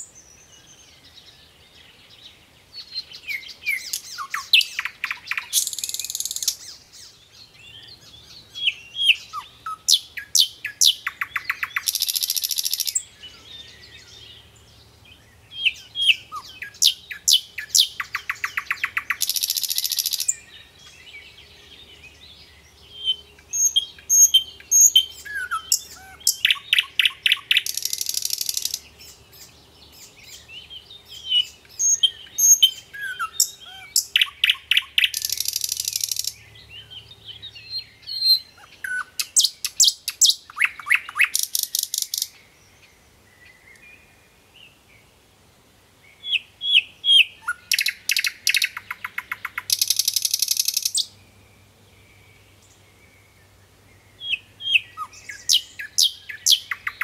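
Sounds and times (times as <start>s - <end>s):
nightingale singing: 0.0s - 45.2s, 46.0s - 57.0s.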